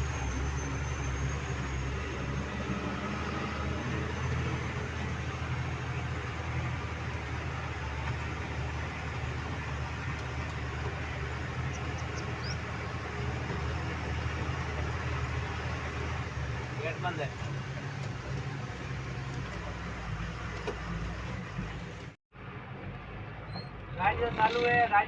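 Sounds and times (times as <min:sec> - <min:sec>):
excavator diesel engine drone: 0:00.0 - 0:25.0.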